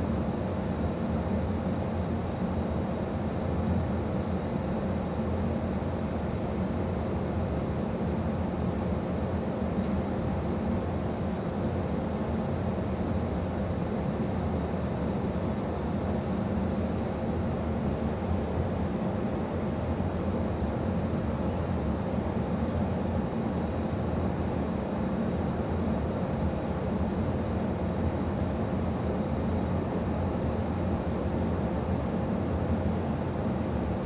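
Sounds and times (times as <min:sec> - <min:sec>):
airflow and engine drone: 0:00.0 - 0:34.0
faint steady hum: 0:00.0 - 0:34.0.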